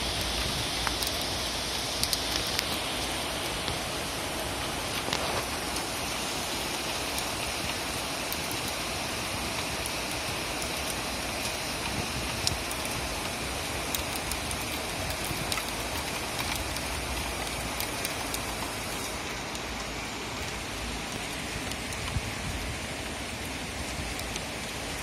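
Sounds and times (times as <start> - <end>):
raindrops ticking close by: 0.0 - 25.0
steady rain falling: 0.0 - 25.0.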